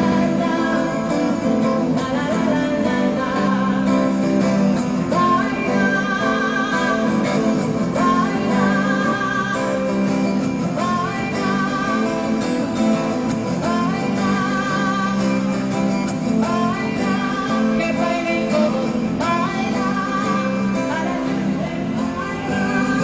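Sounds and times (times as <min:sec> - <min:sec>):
strummed acoustic guitar: 0:00.0 - 0:23.0
woman singing: 0:00.0 - 0:23.0.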